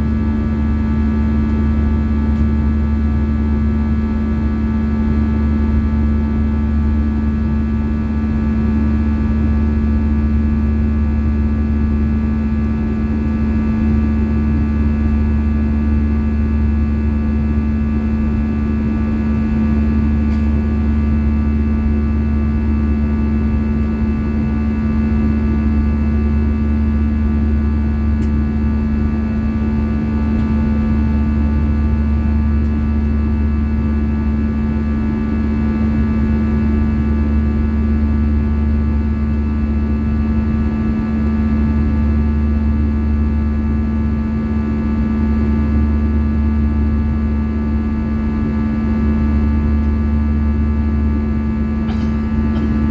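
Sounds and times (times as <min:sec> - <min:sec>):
airplane cabin engine drone: 0:00.0 - 0:52.9.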